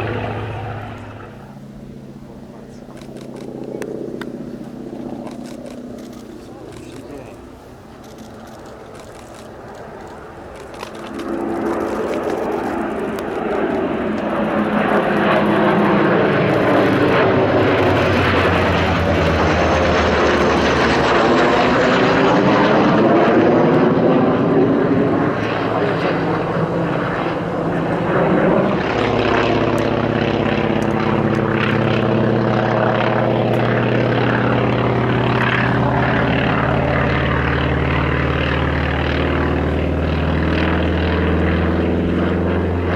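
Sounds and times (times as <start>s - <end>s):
propeller plane flying past: 0.0s - 42.9s.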